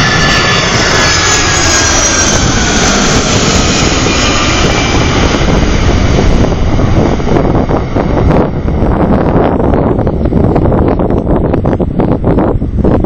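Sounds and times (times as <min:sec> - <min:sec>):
jet plane passing close by: 0:00.0 - 0:13.0.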